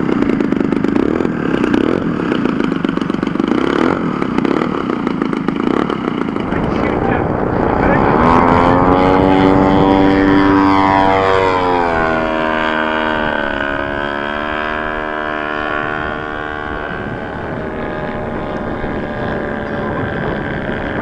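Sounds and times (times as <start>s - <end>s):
model aircraft engine passing: 0.0s - 21.0s.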